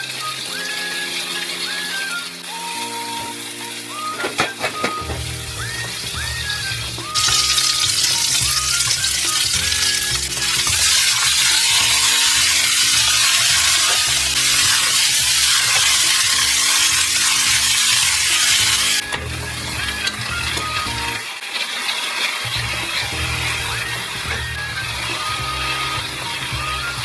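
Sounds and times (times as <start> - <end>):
light background music: 0.0 - 21.5, 22.5 - 27.0
food sizzling in a frying pan: 0.0 - 27.0.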